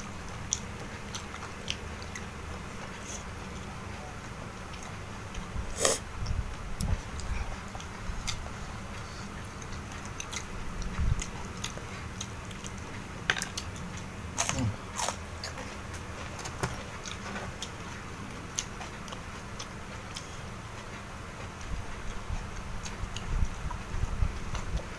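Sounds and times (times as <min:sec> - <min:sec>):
person chewing with crisp crunches: 0:00.0 - 0:03.7, 0:04.7 - 0:24.9.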